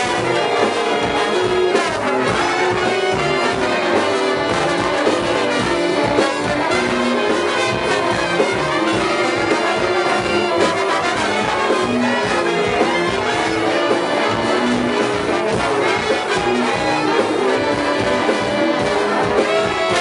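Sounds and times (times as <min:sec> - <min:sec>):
brass ensemble playing: 0:00.0 - 0:20.0.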